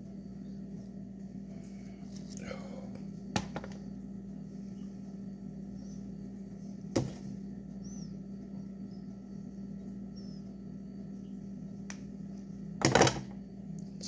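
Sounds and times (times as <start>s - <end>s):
low kitchen hum: 0.0s - 14.0s.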